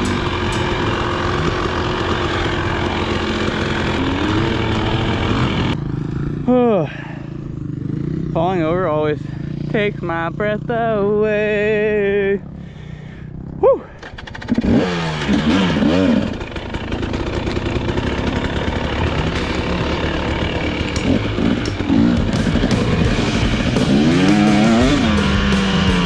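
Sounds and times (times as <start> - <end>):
two-stroke engine revving: 0.0 - 10.7, 12.4 - 26.0.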